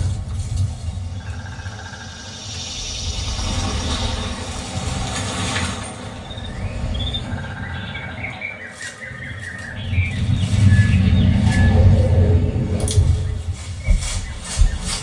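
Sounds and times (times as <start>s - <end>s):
deep bass rumble: 0.0s - 8.4s, 9.7s - 15.0s.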